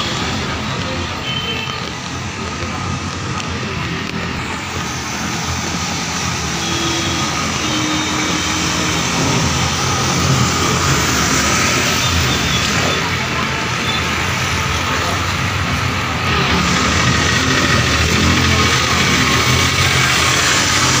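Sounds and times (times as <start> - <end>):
rain falling on a flooded street: 0.0 - 21.0.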